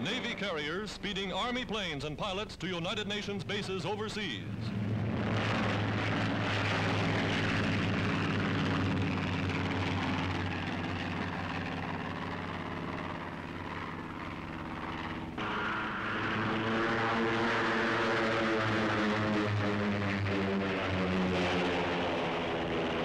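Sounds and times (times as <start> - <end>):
propeller plane engines droning: 0.0 - 23.0.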